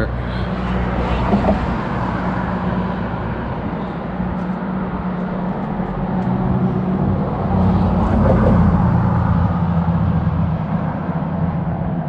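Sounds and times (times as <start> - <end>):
road traffic on bridge: 0.0 - 12.0.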